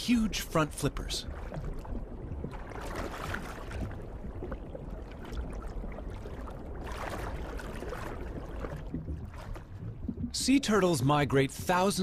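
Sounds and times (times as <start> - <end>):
faint crackles and gurgles: 0.0 - 12.0
underwater rumble of moving water: 0.0 - 12.0.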